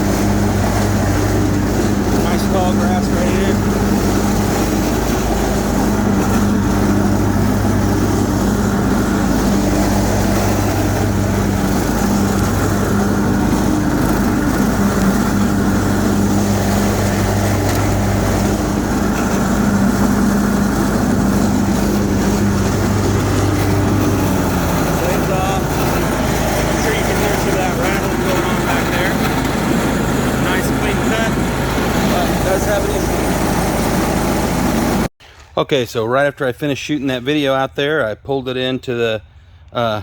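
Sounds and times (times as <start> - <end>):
mower blades cutting grass: 0.0 - 35.1
mower engine running: 0.0 - 35.1.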